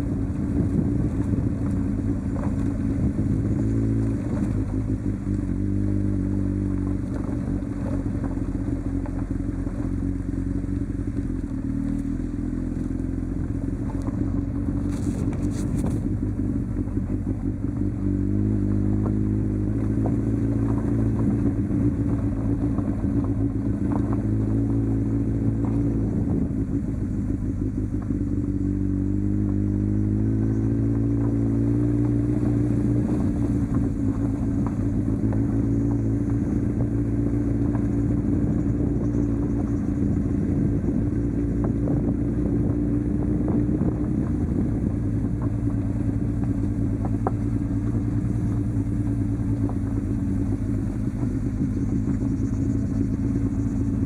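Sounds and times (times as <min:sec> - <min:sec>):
gravel clicks and rattles: 0:00.0 - 0:54.0
motorcycle engine running: 0:00.0 - 0:54.0.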